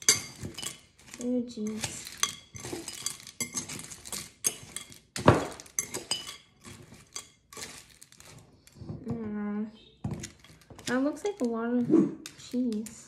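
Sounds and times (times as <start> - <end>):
fork scraping glass bowl: 0.0 - 9.0, 9.8 - 13.0.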